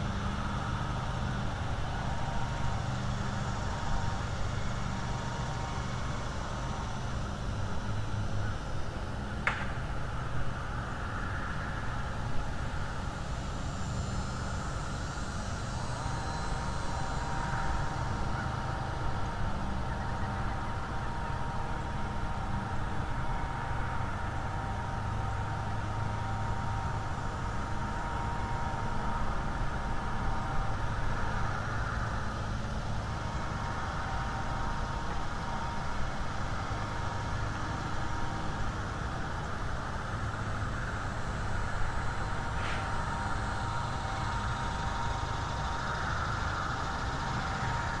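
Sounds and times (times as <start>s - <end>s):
faint steady tones: 0.0s - 48.0s
low engine-like drone: 0.0s - 48.0s.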